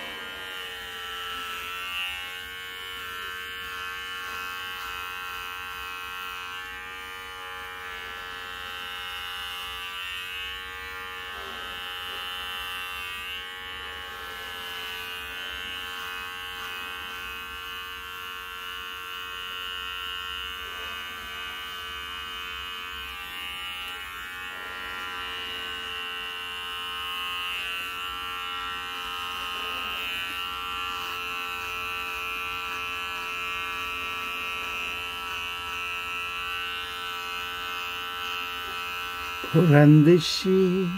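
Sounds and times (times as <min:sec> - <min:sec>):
electric hair clippers buzzing: 0:00.0 - 0:40.9.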